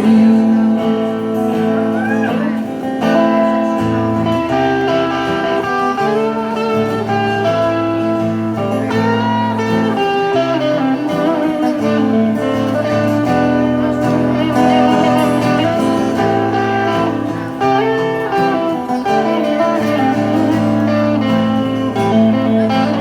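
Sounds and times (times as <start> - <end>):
guitar melody: 0.0 - 23.0.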